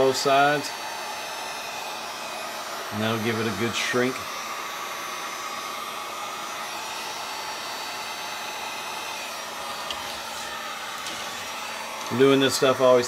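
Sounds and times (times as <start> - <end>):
faint motor whine: 0.0 - 13.0
heat gun blowing air: 0.0 - 13.0.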